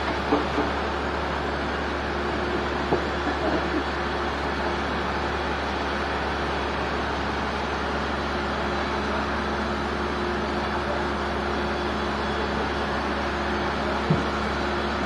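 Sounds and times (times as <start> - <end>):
sawmill machinery droning: 0.0 - 15.0.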